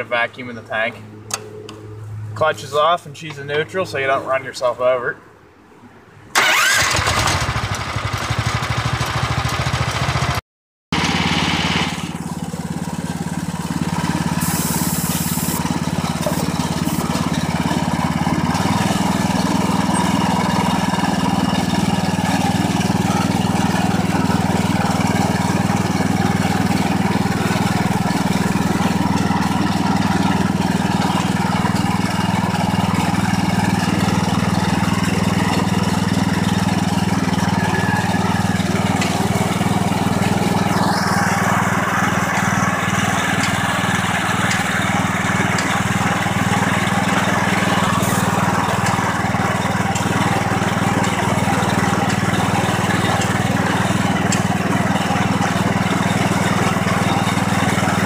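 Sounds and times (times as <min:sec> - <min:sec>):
small engine running: 0:06.4 - 0:58.0.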